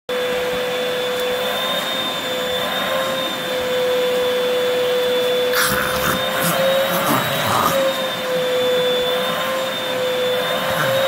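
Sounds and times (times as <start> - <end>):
vacuum cleaner running: 0.1 - 11.0.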